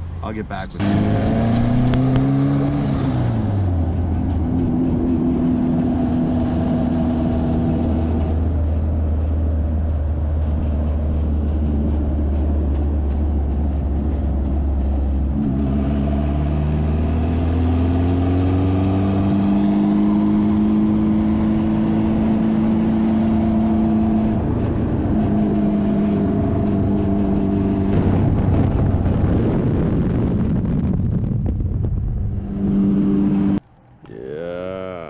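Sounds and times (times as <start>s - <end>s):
car engine accelerating: 0.0s - 30.8s, 32.0s - 34.2s.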